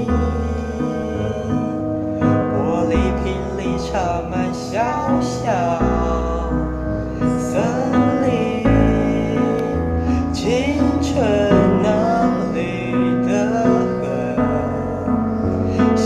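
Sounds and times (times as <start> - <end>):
instrumental accompaniment with bass: 0.0 - 16.0
person singing: 0.0 - 16.0.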